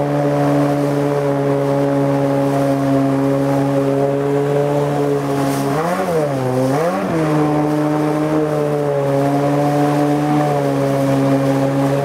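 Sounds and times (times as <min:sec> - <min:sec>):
outboard engine running hard: 0:00.0 - 0:12.0.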